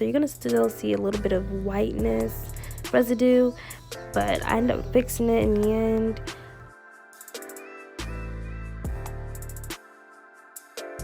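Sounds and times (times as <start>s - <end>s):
beat with drums and heavy bass: 0.2s - 6.6s, 7.3s - 9.8s.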